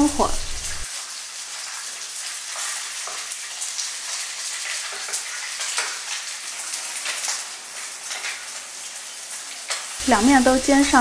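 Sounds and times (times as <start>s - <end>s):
fish frying in hot oil: 0.0s - 11.0s
oil crackling and spattering: 0.0s - 11.0s.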